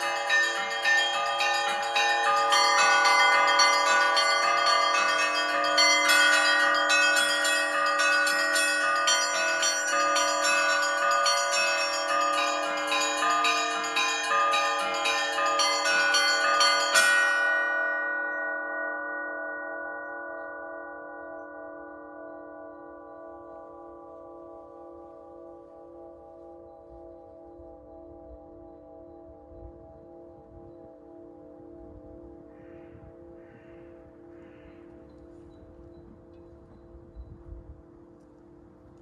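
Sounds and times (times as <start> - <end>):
small church bells struck rapidly: 0.0 - 36.7
hum of large bells: 0.0 - 39.0.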